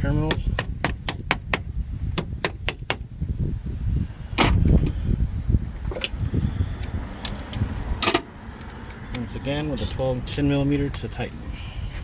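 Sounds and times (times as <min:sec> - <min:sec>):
low rumbling handling noise: 0:00.0 - 0:11.2.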